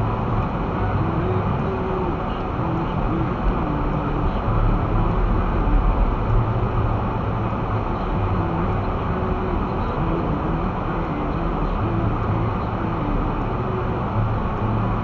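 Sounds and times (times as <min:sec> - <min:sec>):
car engine humming: 0:00.0 - 0:15.0
road and wind noise: 0:00.0 - 0:15.0.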